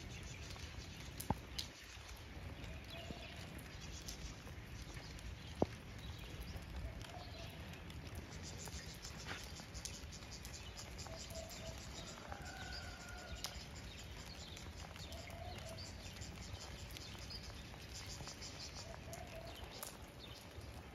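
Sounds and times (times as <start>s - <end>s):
rain falling: 0.0s - 20.9s.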